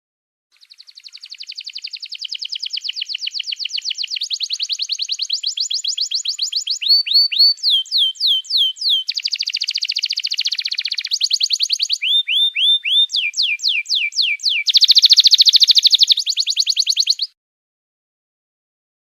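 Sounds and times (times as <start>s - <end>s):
songbird whistles and trills: 0.6s - 17.4s.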